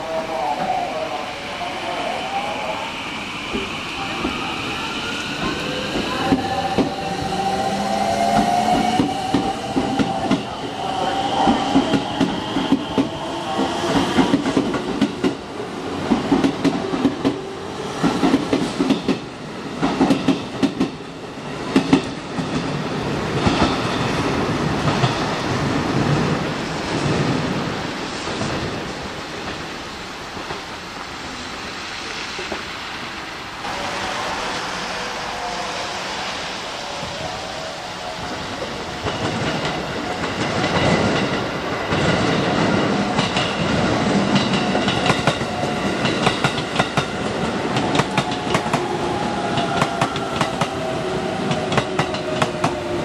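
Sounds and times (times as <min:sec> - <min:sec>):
train rumble: 0:00.0 - 0:53.0
train whine: 0:00.0 - 0:53.0.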